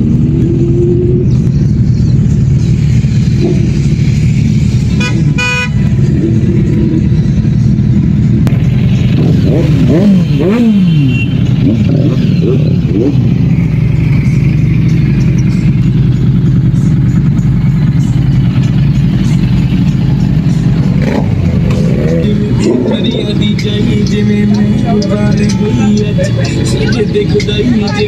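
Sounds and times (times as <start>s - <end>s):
motorcycle engine idling: 0.0s - 28.0s
motorcycles revving: 0.0s - 28.0s.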